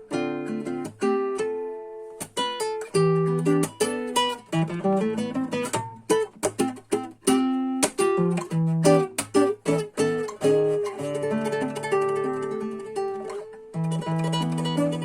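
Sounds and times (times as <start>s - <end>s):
classical guitar plucked notes: 0.0s - 15.0s.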